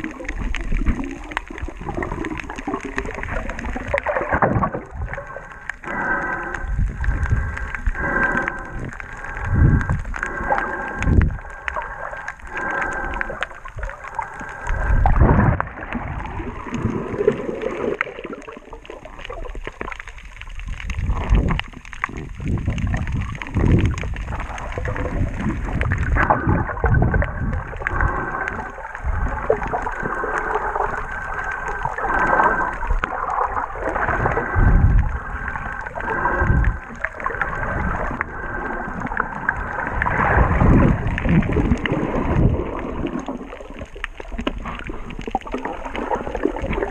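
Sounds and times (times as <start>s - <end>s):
underwater gurgling and sloshing: 0.0s - 46.9s.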